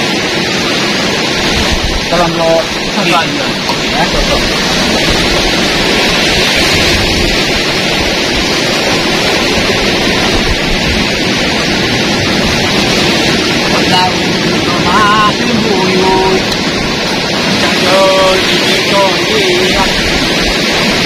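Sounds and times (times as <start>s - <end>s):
heavy sea surf roaring: 0.0s - 21.0s.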